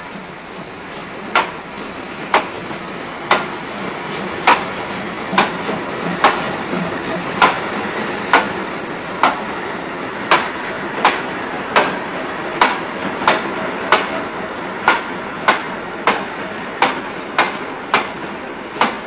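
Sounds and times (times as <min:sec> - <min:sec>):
train wheels clicking over joints: 0:00.0 - 0:19.0.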